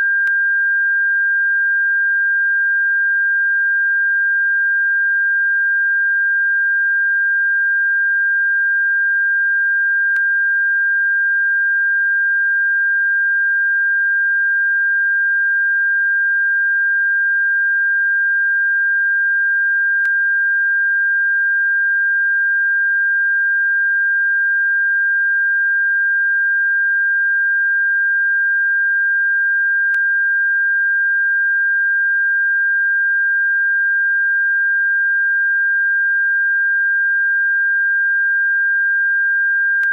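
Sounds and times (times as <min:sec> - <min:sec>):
high-pitched sine tone: 0:00.0 - 0:39.9.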